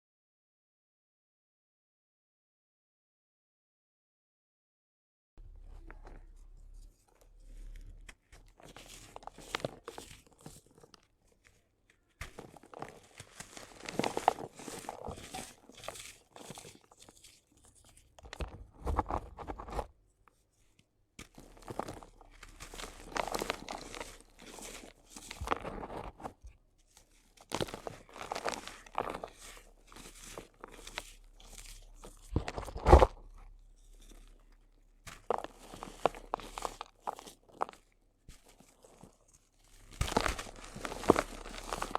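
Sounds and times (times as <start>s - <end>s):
dry cement crunching and crumbling: 5.4s - 41.9s.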